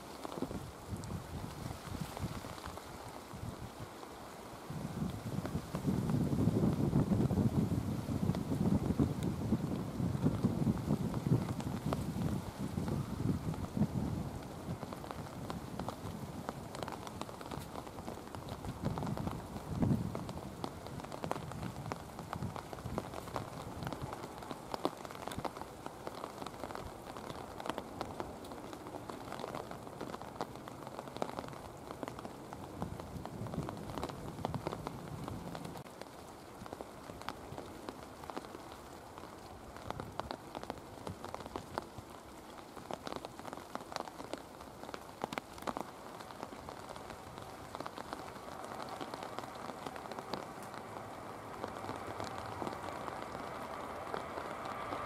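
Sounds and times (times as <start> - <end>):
rain with sharp raindrop ticks: 0.0 - 55.0.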